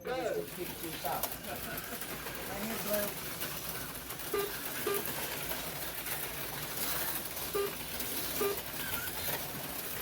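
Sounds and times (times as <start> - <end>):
slot cars buzzing: 0.2 - 10.0.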